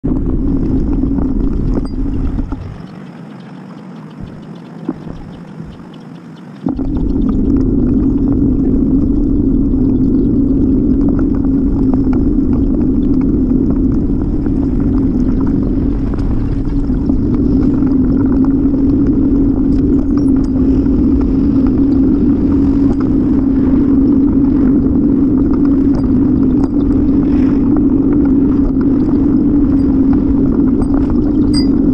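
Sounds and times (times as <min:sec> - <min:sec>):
bicycle riding rumble: 0:00.0 - 0:31.9.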